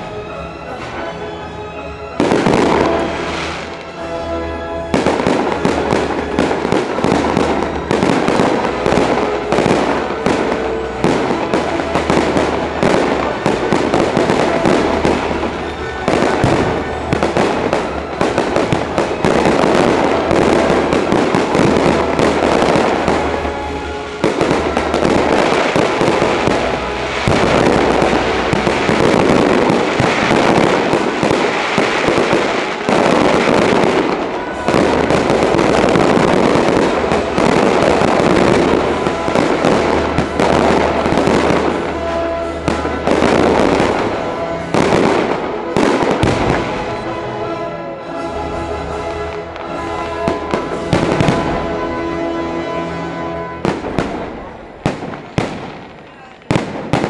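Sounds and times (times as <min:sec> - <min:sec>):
fireworks bursting with bangs and crackles: 0:02.2 - 0:57.0.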